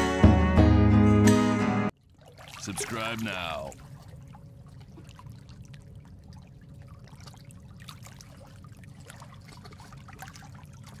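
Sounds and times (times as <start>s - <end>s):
water trickling: 1.9s - 11.0s.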